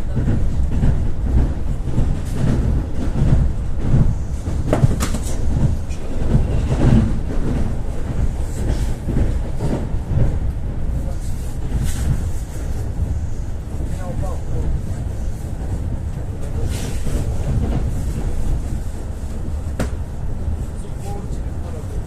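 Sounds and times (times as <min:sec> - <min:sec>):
train carriage low rumble: 0:00.0 - 0:22.0.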